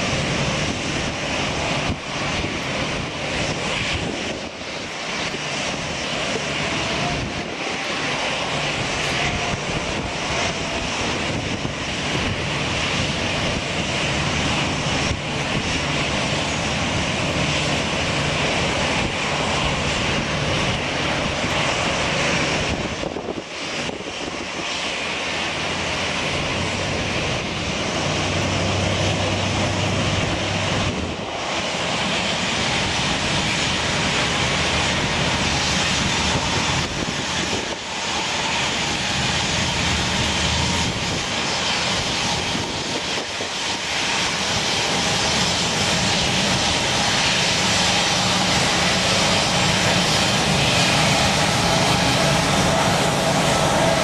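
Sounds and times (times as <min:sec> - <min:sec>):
jet engine noise: 0:00.0 - 0:54.0.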